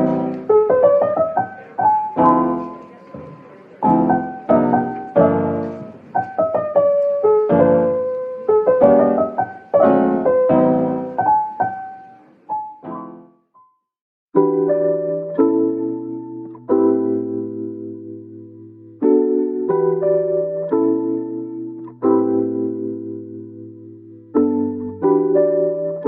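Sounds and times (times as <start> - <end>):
piano music: 0.0 - 13.7, 14.4 - 26.0.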